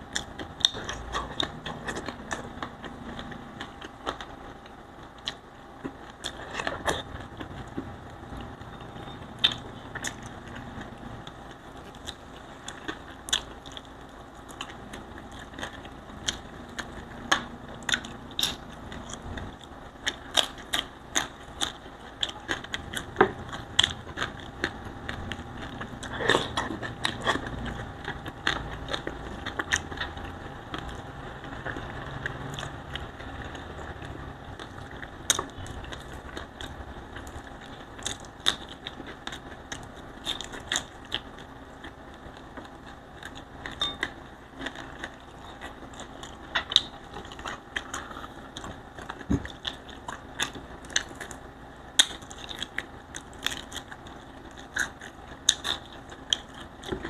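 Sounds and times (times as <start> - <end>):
chewing and lip smacks: 0.0 - 57.0.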